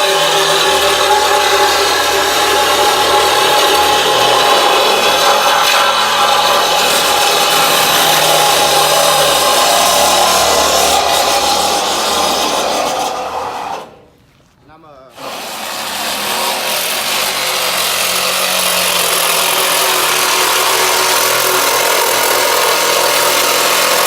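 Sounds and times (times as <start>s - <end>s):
power saw cutting metal: 0.0s - 14.0s, 15.1s - 24.0s.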